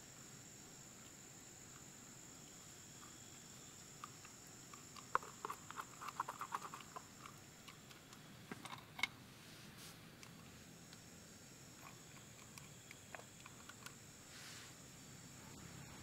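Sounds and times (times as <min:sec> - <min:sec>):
faint high hiss: 0:00.0 - 0:16.0.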